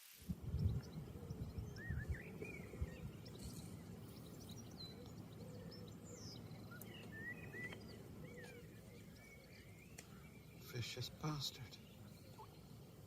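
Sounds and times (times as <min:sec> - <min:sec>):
small birds chirping: 0:00.3 - 0:13.0.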